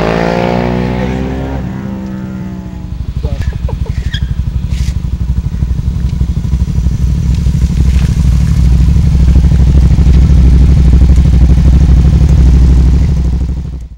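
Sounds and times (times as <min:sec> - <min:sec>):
motorcycle engine idling: 0:01.8 - 0:13.9.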